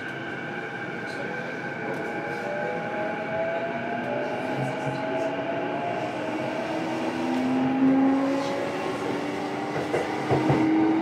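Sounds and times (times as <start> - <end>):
train rolling noise: 0.0 - 11.0.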